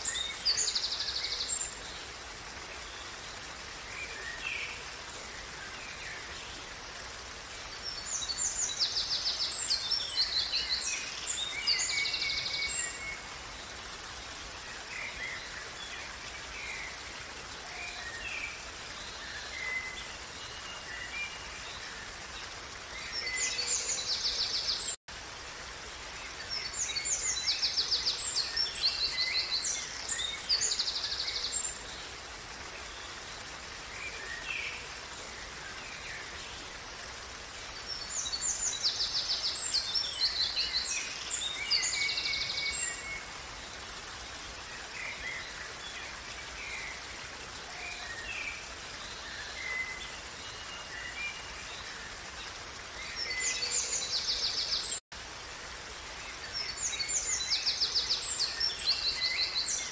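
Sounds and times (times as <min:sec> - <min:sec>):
creek running water: 0:00.0 - 0:59.9.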